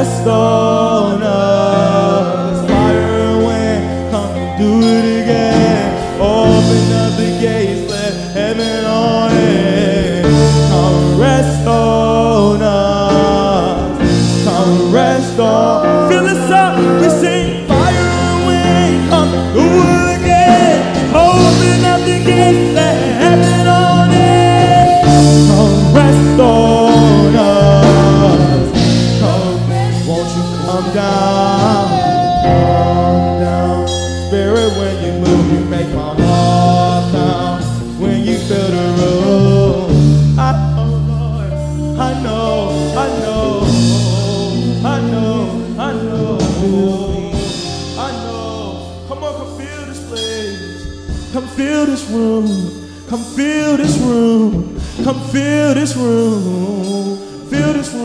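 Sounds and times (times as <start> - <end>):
drums: 0.0 - 58.0
electric guitar: 0.0 - 58.0
keyboard: 0.0 - 58.0
person singing: 0.0 - 58.0.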